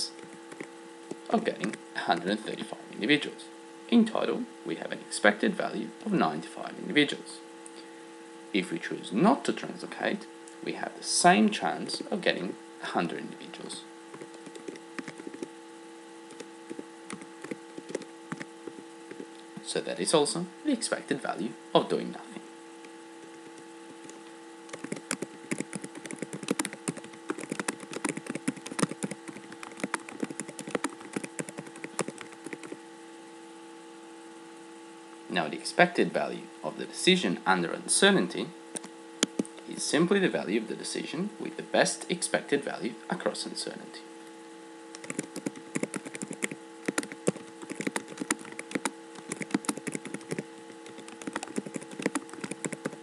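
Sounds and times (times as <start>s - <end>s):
mains hum: 0.0s - 53.0s.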